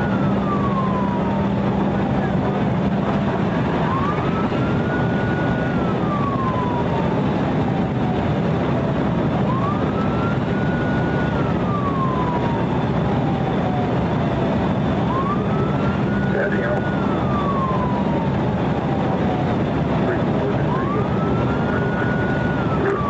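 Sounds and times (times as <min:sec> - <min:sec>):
police siren wailing: 0:00.0 - 0:23.0
steady background noise: 0:00.0 - 0:23.0.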